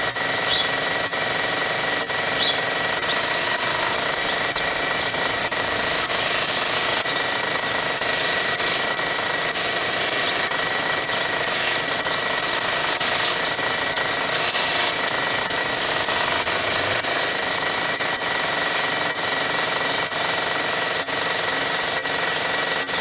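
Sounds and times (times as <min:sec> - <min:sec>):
abrasive belt grinding wood: 0:00.0 - 0:23.0
belt grinder whining: 0:00.0 - 0:23.0.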